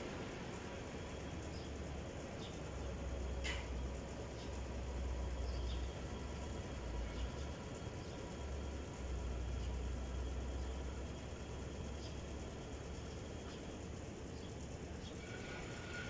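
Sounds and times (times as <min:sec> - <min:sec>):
low outdoor rumble: 0:00.0 - 0:16.0
small birds chirping: 0:01.1 - 0:15.2.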